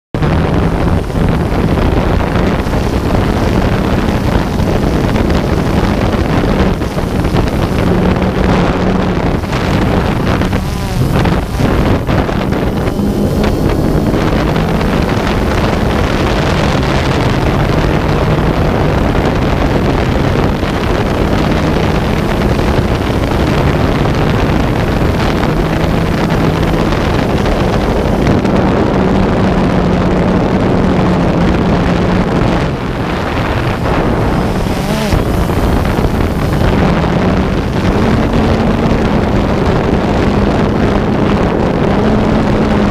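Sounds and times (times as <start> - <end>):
wind rush on microphone: 0.1 - 42.9
motor running: 0.2 - 42.9.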